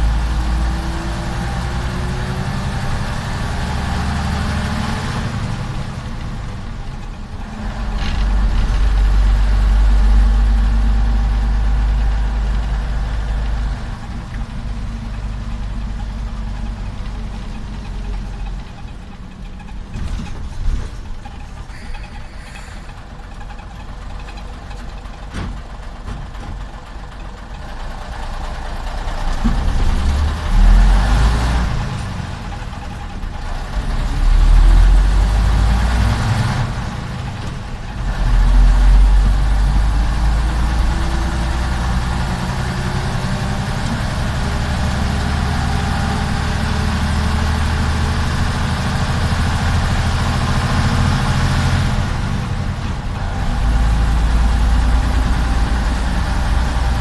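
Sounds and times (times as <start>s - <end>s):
bus diesel engine accelerating: 0.0s - 57.0s.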